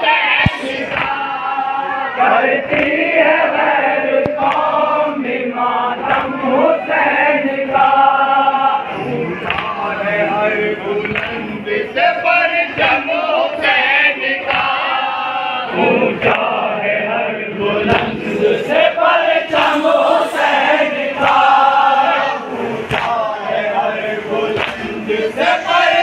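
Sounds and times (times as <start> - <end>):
crowd of men chanting in unison: 0.0 - 26.0.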